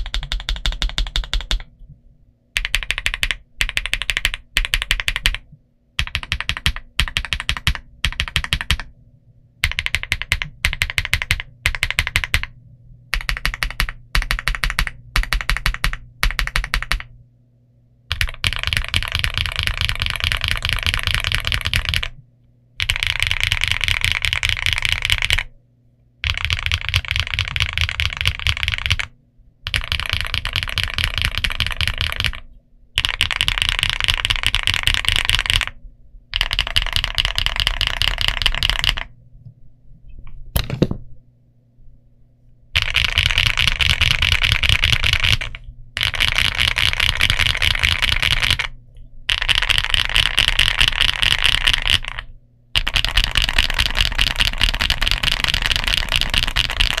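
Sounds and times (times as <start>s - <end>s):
fast typing on mechanical keyboard: 0.0s - 1.7s, 2.6s - 5.4s, 6.0s - 8.9s, 9.6s - 17.1s, 18.1s - 22.2s, 22.8s - 25.5s, 26.2s - 29.1s, 29.7s - 39.1s, 42.8s - 57.0s.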